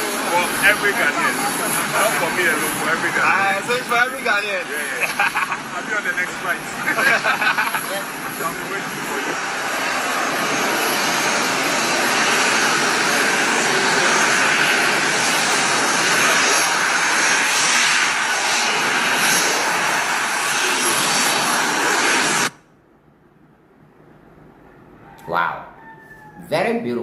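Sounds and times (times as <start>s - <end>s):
jet engines rushing: 0.0s - 22.6s
faint high whine: 0.0s - 23.7s.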